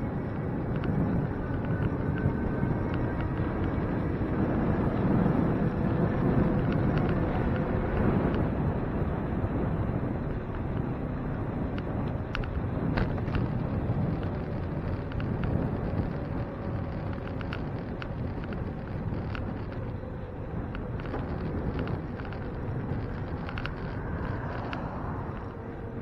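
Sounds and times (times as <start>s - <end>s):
bicycle road rumble: 0.0s - 26.0s
wind buffeting microphone: 0.0s - 26.0s
small clicks and rattles: 0.1s - 4.2s, 5.6s - 8.6s, 10.2s - 26.0s.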